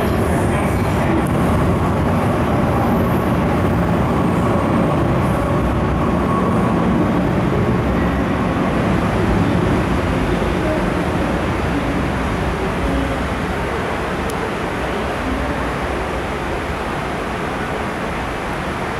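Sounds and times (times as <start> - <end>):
train wheels rumbling: 0.0 - 17.4.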